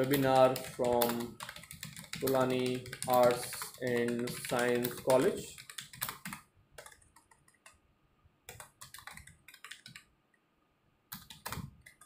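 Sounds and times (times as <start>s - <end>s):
faint keyboard typing: 0.0s - 10.4s, 11.1s - 12.0s.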